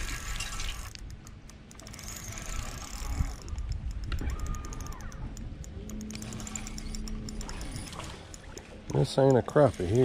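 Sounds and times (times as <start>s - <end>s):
fishing reel ticking: 0.0s - 10.0s.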